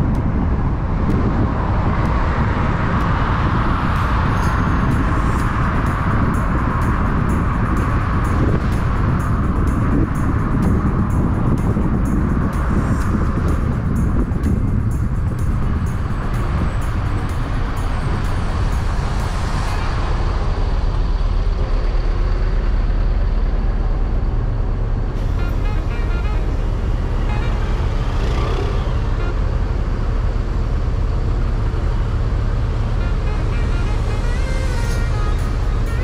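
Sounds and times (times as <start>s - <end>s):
heavy traffic rumble: 0.0s - 36.0s.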